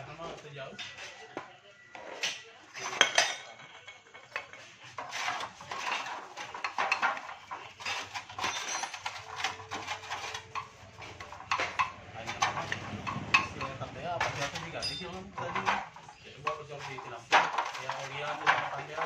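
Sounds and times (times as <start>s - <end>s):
metal tools clinking and knocking: 0.0s - 1.4s, 2.0s - 19.0s.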